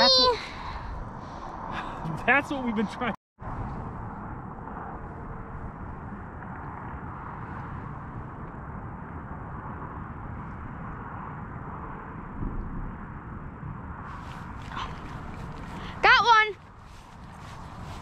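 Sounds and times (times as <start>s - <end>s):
wind buffeting microphone: 0.1s - 18.0s.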